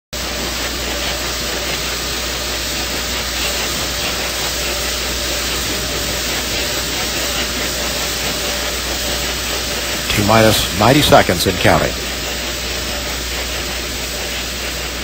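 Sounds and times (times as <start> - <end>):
steady hiss: 0.2 - 15.0.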